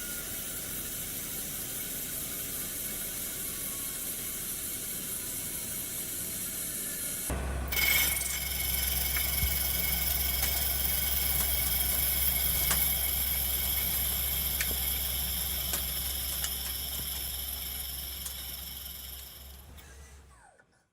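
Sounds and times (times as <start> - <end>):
lathe humming and whining: 0.0 - 19.8.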